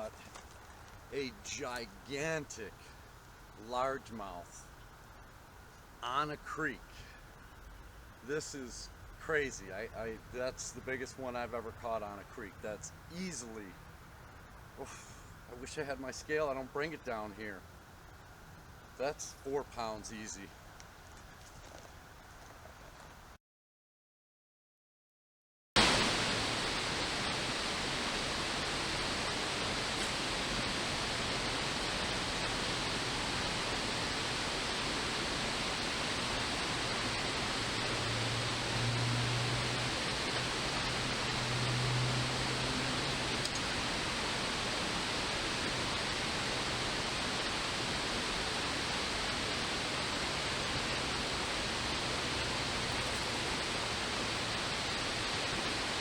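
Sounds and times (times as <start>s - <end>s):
creek water flowing: 0.0s - 23.4s, 25.8s - 56.0s.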